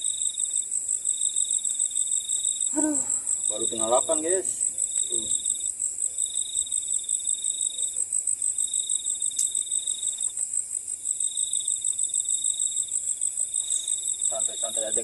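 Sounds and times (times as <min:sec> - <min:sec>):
crickets chirring: 0:00.0 - 0:15.0
frogs trilling: 0:00.0 - 0:15.0.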